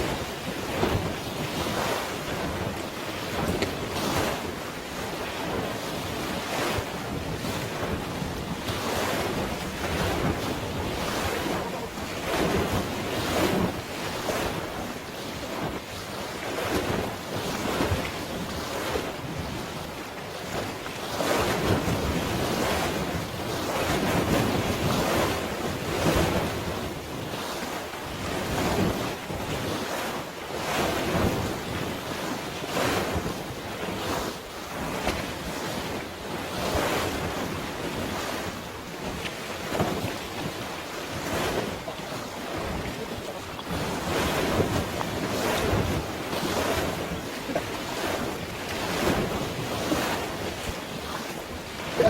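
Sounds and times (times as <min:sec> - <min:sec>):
waves washing: 0:00.0 - 0:52.0
wind buffeting microphone: 0:00.0 - 0:52.0.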